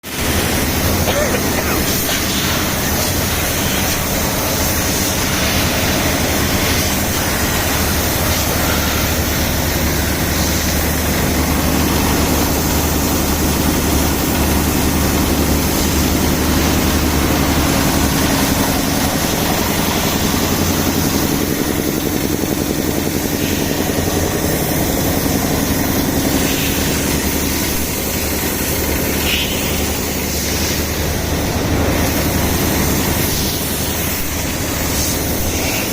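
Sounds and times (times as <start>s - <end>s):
air compressor drone: 0.0s - 35.9s
compressed air hissing: 0.2s - 35.9s.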